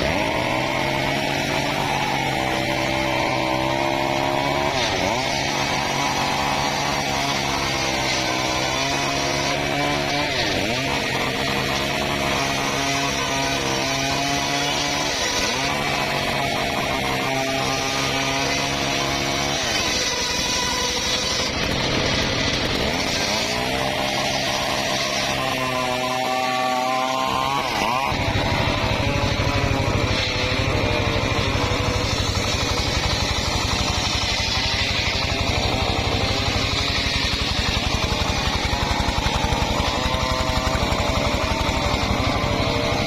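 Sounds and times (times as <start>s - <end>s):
engine-powered saw cutting timber: 0.0s - 43.0s.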